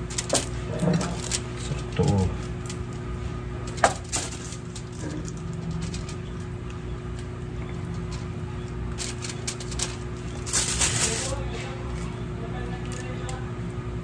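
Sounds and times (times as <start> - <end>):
crinkles and ticks on foil: 0.0 - 13.5
steady low hum: 0.0 - 14.0.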